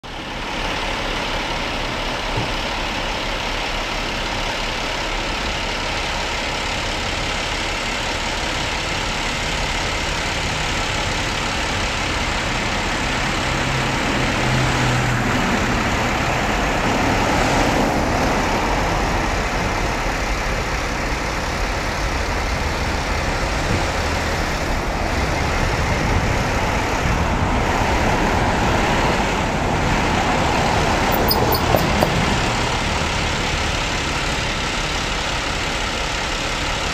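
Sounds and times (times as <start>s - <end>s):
truck engines idling: 0.0s - 36.9s.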